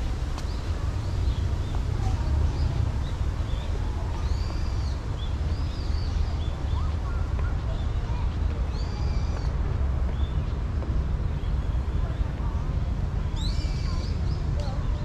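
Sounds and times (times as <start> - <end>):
steady low rumble: 0.0 - 15.0
small birds chirping: 0.4 - 15.0.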